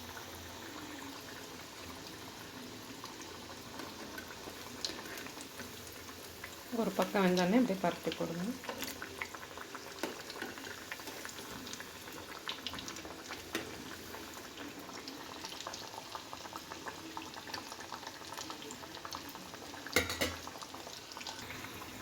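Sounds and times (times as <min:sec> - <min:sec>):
food deep-frying in oil: 0:00.0 - 0:22.0.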